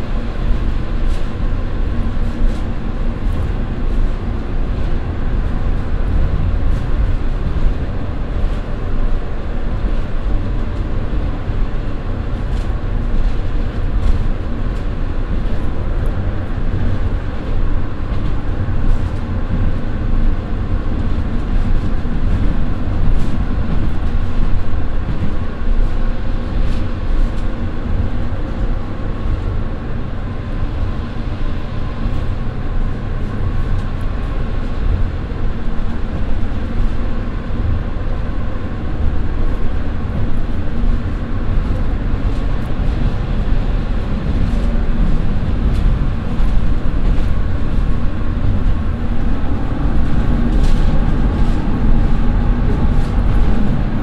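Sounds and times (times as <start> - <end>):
train cabin rumble: 0.0 - 54.0.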